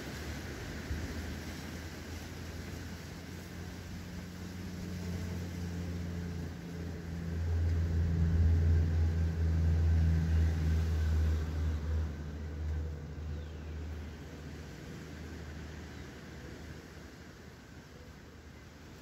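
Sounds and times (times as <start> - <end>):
passing vehicle engine rumble: 0.0 - 19.0.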